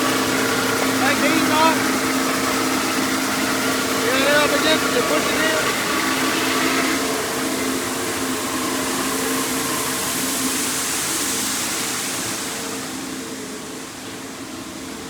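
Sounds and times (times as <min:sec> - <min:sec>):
low machinery hum: 0:00.0 - 0:15.0
machinery hiss: 0:00.0 - 0:15.0.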